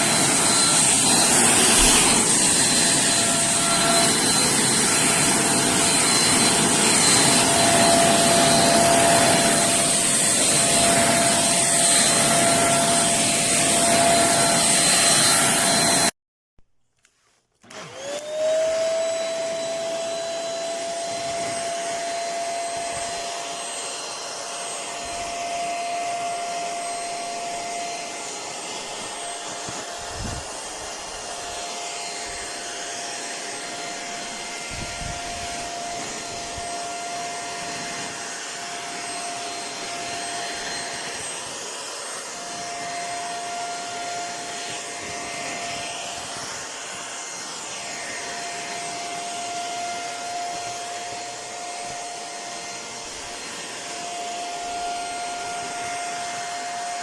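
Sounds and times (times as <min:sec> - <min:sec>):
vacuum cleaner motor whine: 0:00.0 - 0:16.1, 0:17.6 - 0:57.0.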